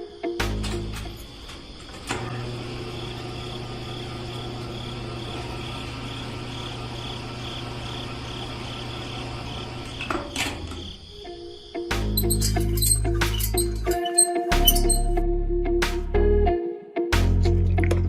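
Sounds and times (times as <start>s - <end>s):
cricket chirping: 0.0s - 15.2s.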